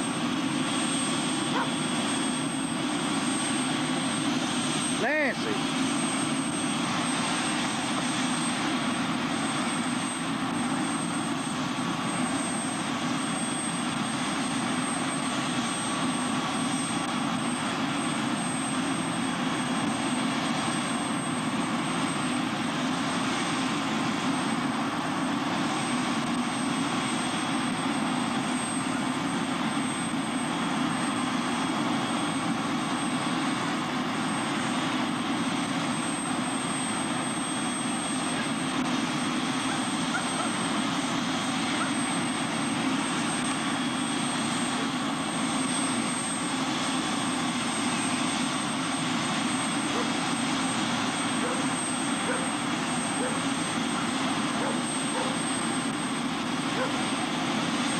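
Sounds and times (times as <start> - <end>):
helicopter engine and rotor: 0.0 - 57.9.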